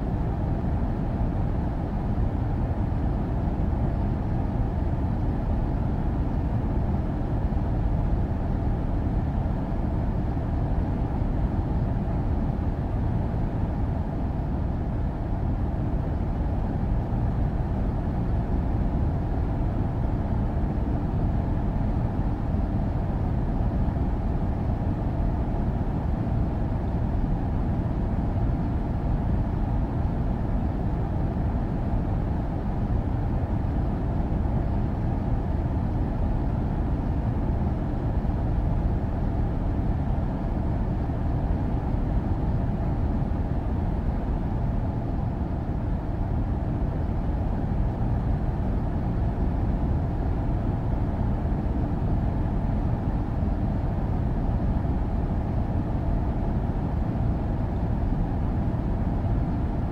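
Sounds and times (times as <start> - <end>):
air conditioner fan humming: 0.0 - 59.9.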